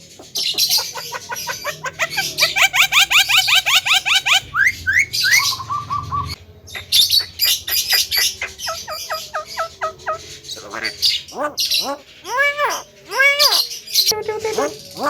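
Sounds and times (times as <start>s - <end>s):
myna bird singing varied calls: 0.0s - 15.0s.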